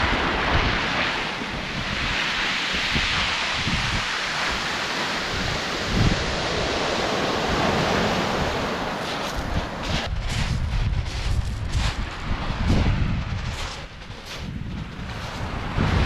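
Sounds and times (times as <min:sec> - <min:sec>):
waves breaking on shingle beach: 0:00.0 - 0:16.0
wind buffeting microphone: 0:00.0 - 0:16.0.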